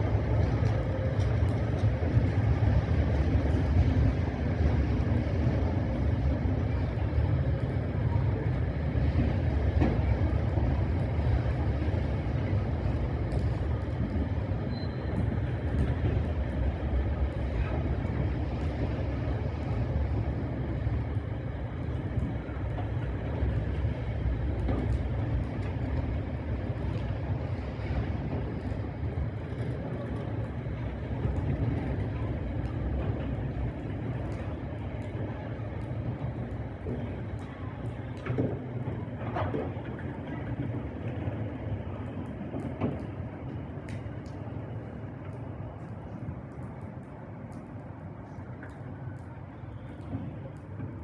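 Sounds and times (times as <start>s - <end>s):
train rumbling: 0.0s - 46.6s.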